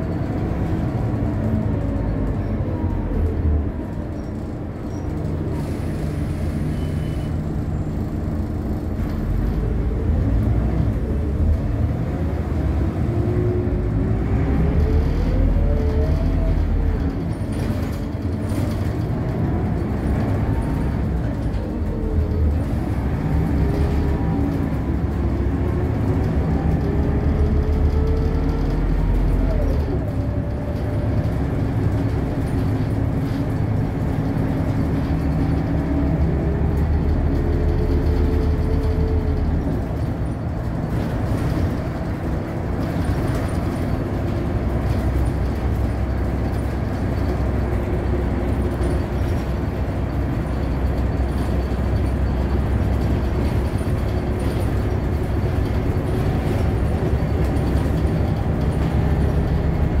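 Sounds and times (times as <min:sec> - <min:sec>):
bus engine hum: 0:00.0 - 1:00.0
road rumble: 0:00.0 - 1:00.0.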